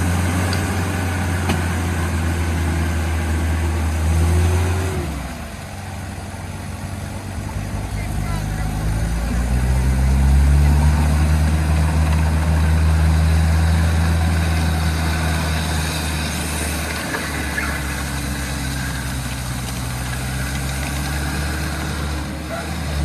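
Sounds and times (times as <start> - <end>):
vehicle engine idling low: 0.0 - 23.0.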